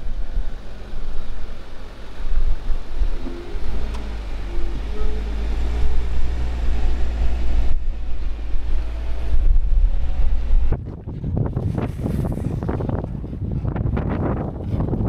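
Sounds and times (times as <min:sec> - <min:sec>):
engine running low: 0:00.0 - 0:15.0
wind buffeting microphone: 0:00.0 - 0:15.0.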